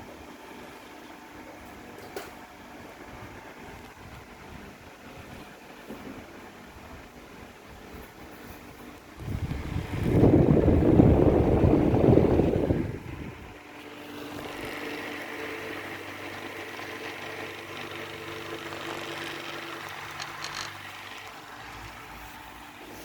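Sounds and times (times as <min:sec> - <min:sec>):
fan motor hum: 0:00.0 - 0:23.0.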